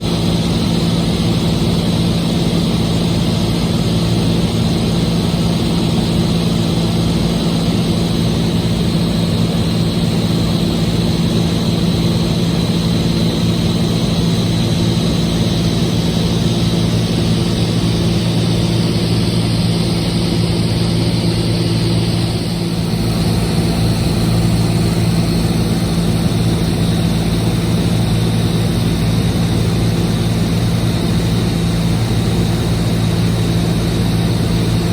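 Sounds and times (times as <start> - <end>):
propeller plane engine drone: 0.0 - 34.9.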